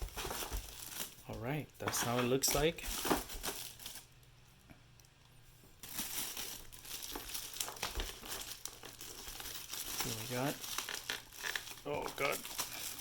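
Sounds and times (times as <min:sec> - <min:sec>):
packaging crinkling and rustling: 0:00.0 - 0:04.2, 0:05.8 - 0:13.0.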